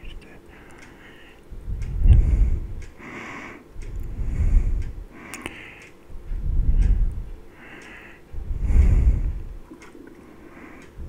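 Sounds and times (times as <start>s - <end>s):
light ticks: 0.0s - 3.1s, 3.7s - 11.0s.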